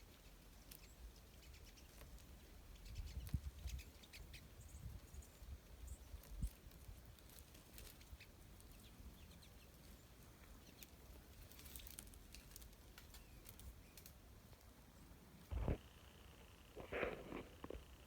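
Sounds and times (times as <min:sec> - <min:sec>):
songbirds chirping softly: 0:00.0 - 0:18.0.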